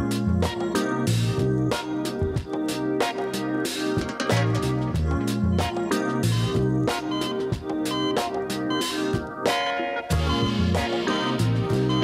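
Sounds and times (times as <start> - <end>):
upbeat music with bass and drums: 0.0 - 12.0.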